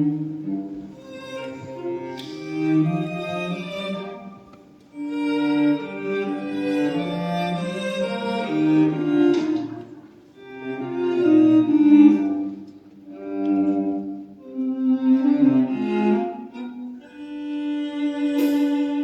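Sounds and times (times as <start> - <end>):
cello playing: 0.0 - 19.0
violin playing: 0.0 - 19.0.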